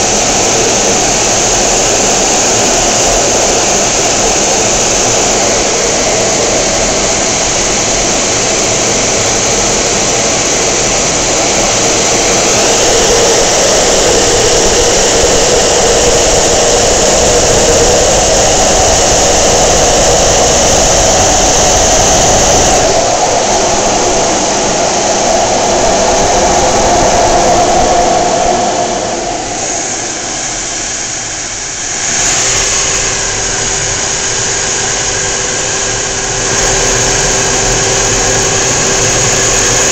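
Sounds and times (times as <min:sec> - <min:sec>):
jet engine roar with whine: 0:00.0 - 0:39.9.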